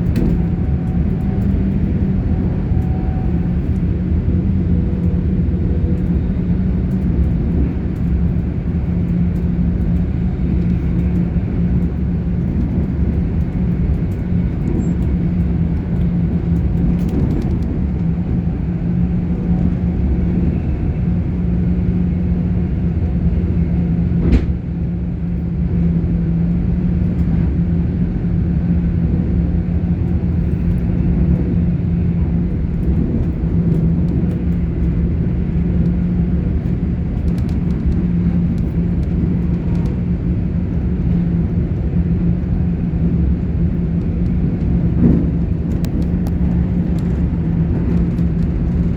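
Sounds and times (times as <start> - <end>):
constant hum: 0.0 - 48.9
train wheels rumbling on rails: 0.0 - 48.9.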